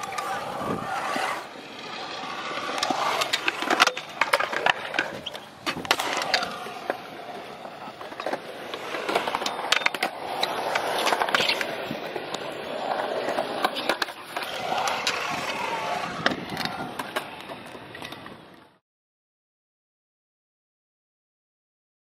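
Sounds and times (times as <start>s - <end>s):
scooter clacking on concrete: 0.0s - 18.3s
scooter wheels rolling on concrete: 0.0s - 18.8s.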